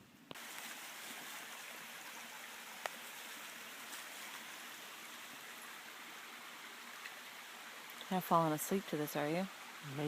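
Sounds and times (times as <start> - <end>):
flowing creek water: 0.3 - 10.0.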